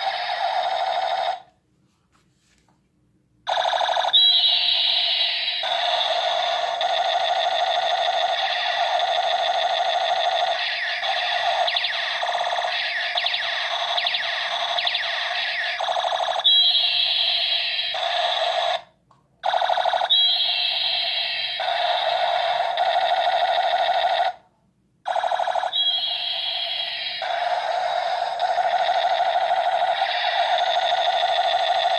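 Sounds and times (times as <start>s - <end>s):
toy gun warbling tones and zaps: 0.0s - 1.4s, 3.5s - 18.8s, 19.5s - 24.4s, 25.1s - 31.9s.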